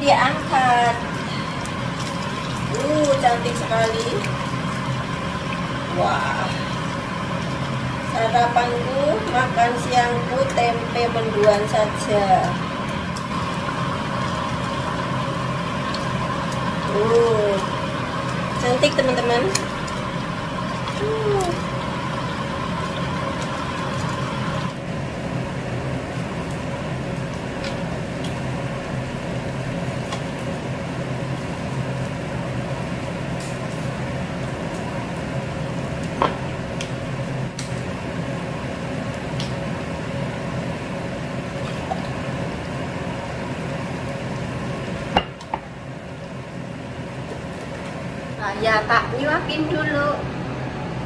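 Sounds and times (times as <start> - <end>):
appliance or fan humming: 0.0 - 51.0.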